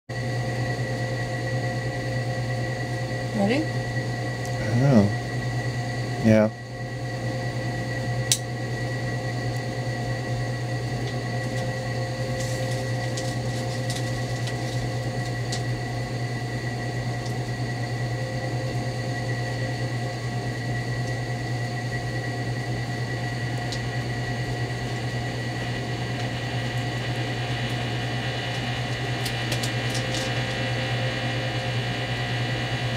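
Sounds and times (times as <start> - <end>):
radio speaker hum with hiss: 0.2 - 32.9.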